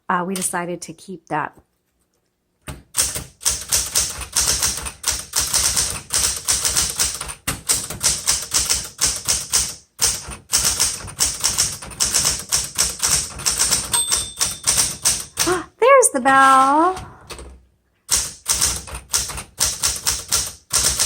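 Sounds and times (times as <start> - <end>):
manual typewriter typing: 2.8 - 15.6, 16.3 - 21.0.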